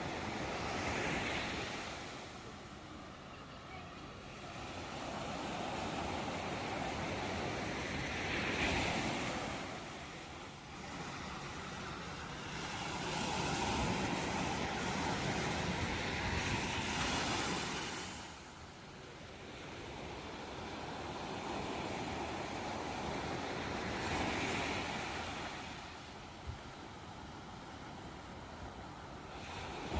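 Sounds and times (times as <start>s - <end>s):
ocean surf washing in and out: 0.0s - 29.9s.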